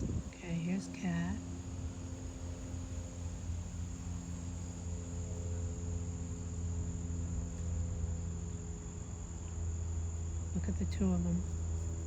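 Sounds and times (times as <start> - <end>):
insects trilling: 0.0 - 12.0
low background rumble: 0.0 - 12.0.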